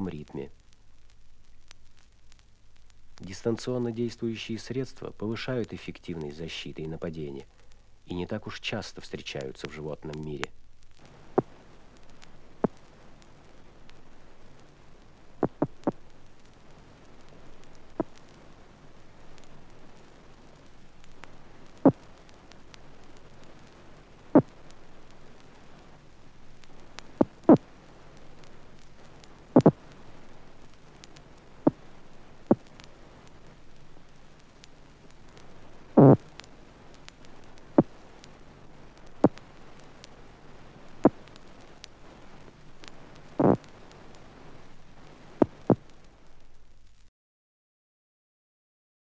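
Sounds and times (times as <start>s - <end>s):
crackling bursts: 0.0s - 47.1s
electric clicks and pops: 0.0s - 47.1s
steady hiss: 0.0s - 47.1s.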